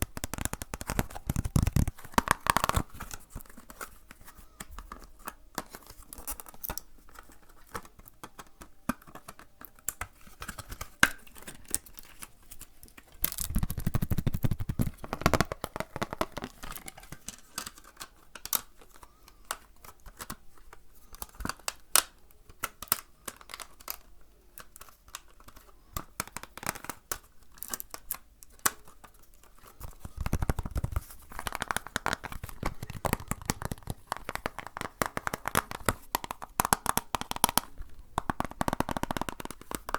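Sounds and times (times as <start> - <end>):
objects crackling when handled: 0.0 - 39.9.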